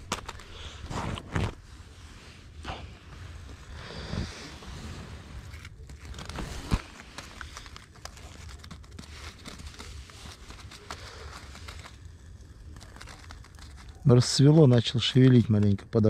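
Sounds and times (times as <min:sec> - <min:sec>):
rustling of clothing and fabric: 0:00.0 - 0:16.0.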